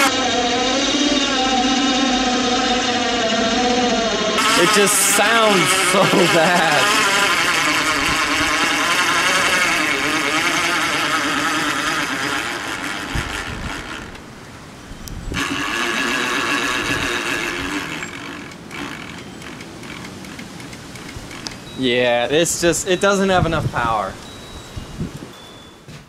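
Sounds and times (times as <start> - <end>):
electric winch motor whining: 0.0 - 21.8.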